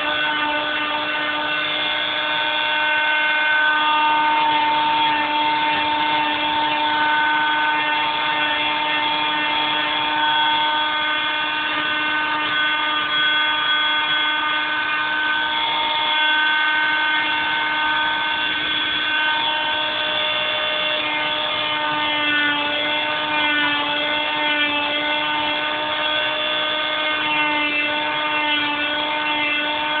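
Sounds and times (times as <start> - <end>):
electric grinder whining on wood: 0.0 - 30.0.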